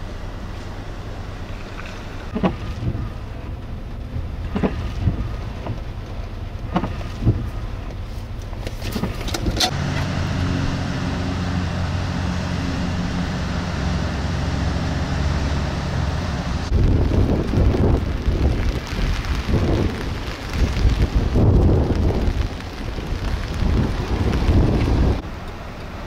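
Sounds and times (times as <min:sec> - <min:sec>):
floodwater flowing: 0:00.0 - 0:26.0
wind: 0:00.0 - 0:26.0.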